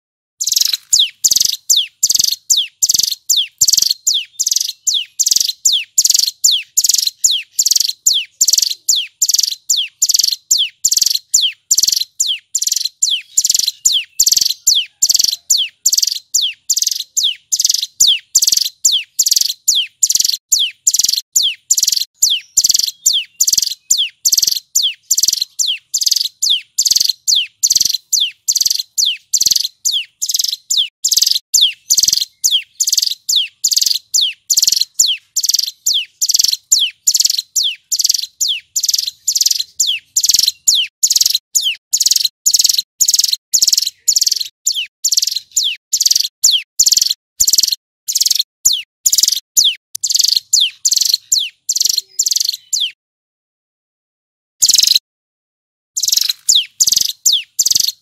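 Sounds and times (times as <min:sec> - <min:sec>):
bird singing rapid repeated notes: 0:00.4 - 0:53.0, 0:54.6 - 0:55.0, 0:56.0 - 0:58.0.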